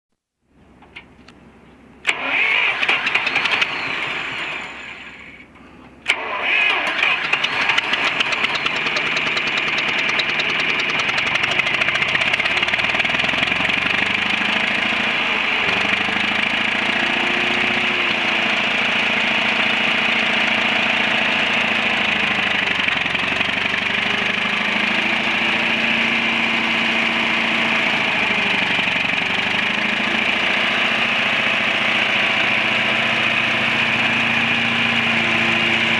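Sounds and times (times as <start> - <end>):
tractor engine cranking and idling: 0.5 - 35.9.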